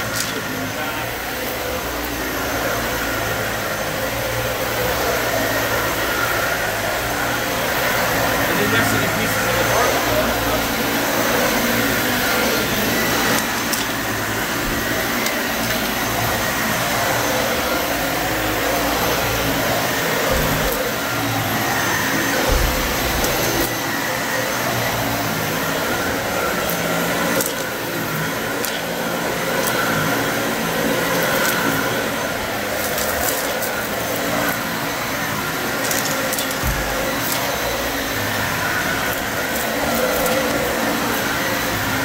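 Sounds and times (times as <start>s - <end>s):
vacuum cleaner running over carpet: 0.0s - 42.0s.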